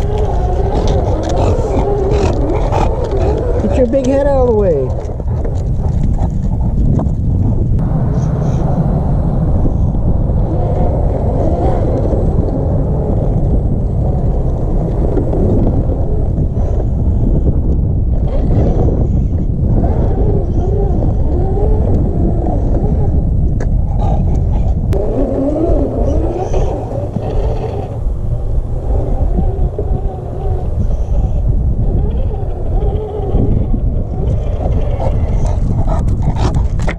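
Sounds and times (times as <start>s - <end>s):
wind rumbling on microphone: 0.0s - 36.9s.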